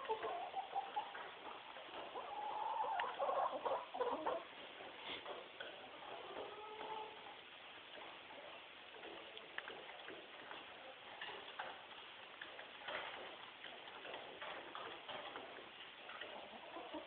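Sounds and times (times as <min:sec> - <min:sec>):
chickens pecking: 0:00.0 - 0:17.0
steady background hiss: 0:00.0 - 0:17.0.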